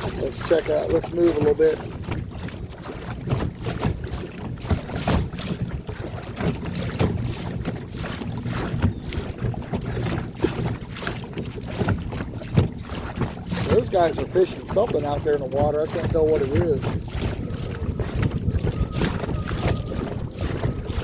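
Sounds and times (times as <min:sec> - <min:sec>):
water slapping boat hull: 0:00.0 - 0:21.0
wind buffeting microphone: 0:00.0 - 0:21.0.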